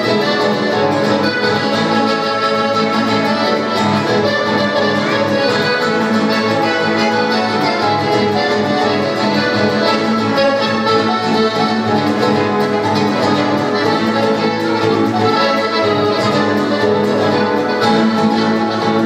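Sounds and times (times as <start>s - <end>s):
live instrumental trio music: 0.0s - 19.0s.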